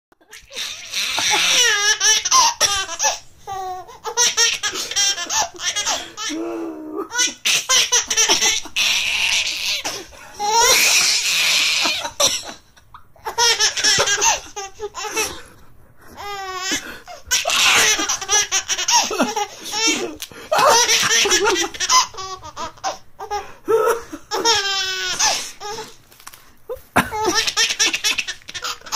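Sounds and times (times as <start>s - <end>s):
baby laughing: 0.2s - 15.4s, 16.2s - 26.0s, 26.7s - 28.9s.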